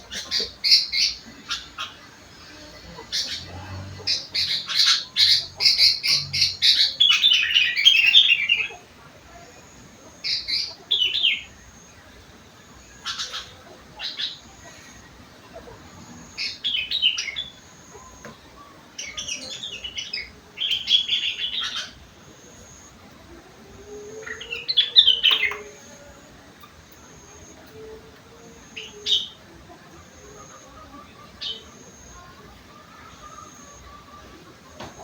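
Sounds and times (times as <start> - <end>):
bulbul singing chirping phrases: 0.0 - 34.8.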